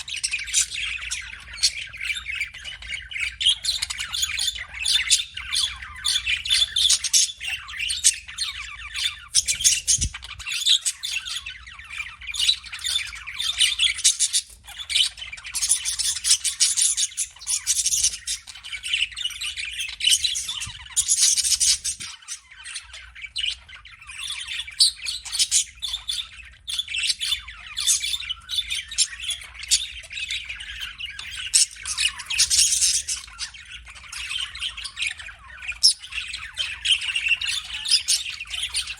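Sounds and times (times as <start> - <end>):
budgies chirping: 0.0 - 38.9.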